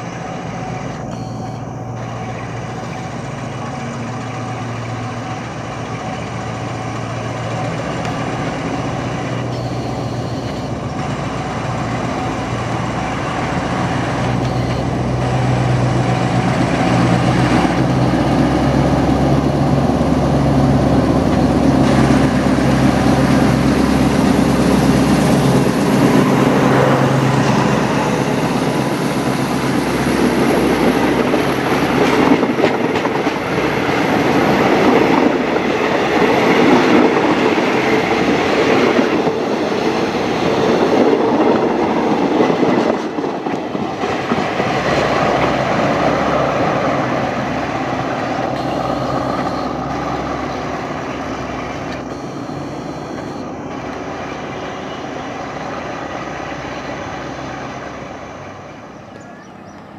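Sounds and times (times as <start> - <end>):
locomotive engine drone: 0.0 - 59.9
train wheels rolling on rails: 0.0 - 59.9.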